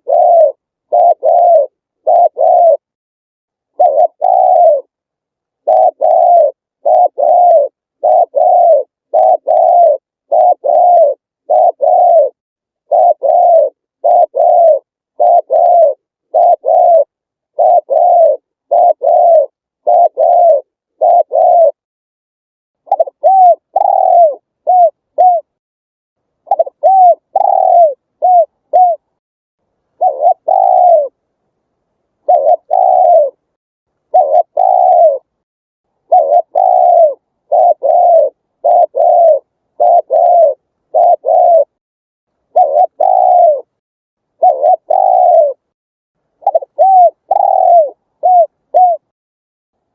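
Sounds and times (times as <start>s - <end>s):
dove cooing: 0.0s - 2.9s, 3.7s - 4.9s, 5.6s - 21.8s, 22.9s - 25.6s, 26.5s - 29.1s, 30.0s - 31.2s, 32.2s - 33.4s, 34.1s - 35.3s, 36.0s - 41.8s, 42.5s - 43.7s, 44.4s - 45.7s, 46.4s - 49.1s.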